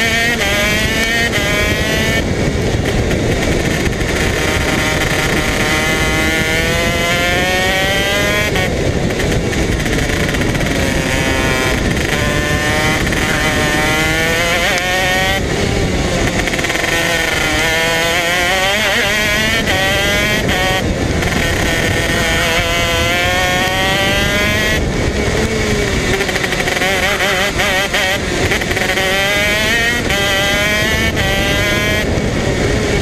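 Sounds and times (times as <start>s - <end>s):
kart engine revving: 0.0s - 33.0s.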